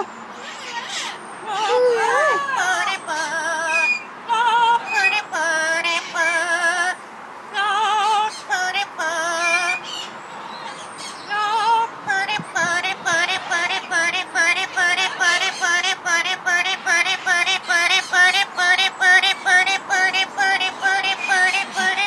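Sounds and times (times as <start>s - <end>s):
bird singing: 0.0s - 7.0s, 7.6s - 22.0s.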